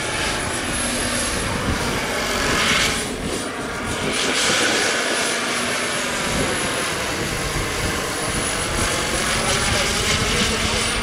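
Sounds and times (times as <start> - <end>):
model turbine whining: 0.0 - 11.0
rotor blades rushing: 0.0 - 11.0.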